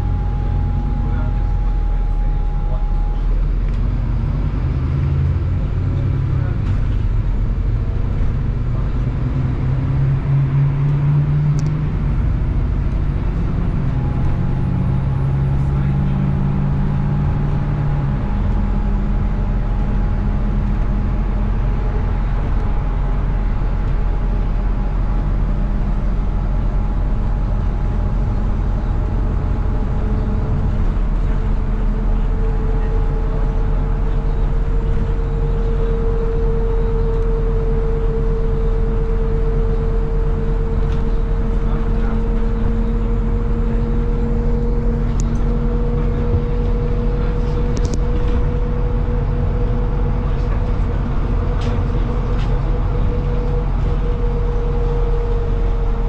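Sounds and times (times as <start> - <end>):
bus diesel engine running: 0.0 - 56.0
road and tyre rumble: 0.0 - 56.0
steady whine: 0.0 - 56.0.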